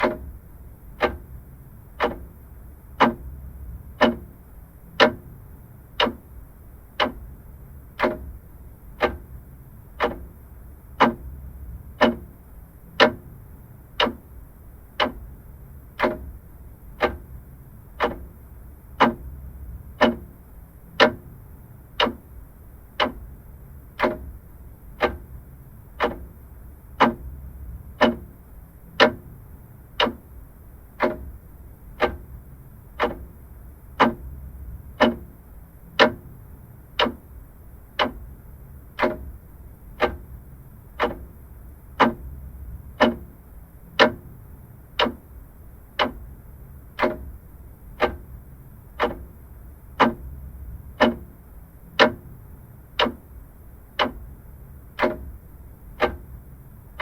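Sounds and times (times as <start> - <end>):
faint low hum: 0.0 - 57.0
mechanical clock ticking: 0.0 - 57.0.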